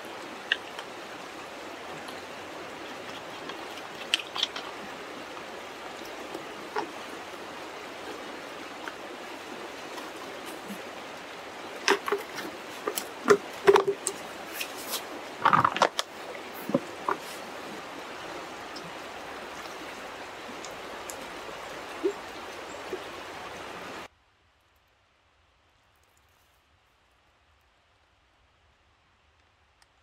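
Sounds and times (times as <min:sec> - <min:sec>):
river water flowing: 0:00.0 - 0:24.1.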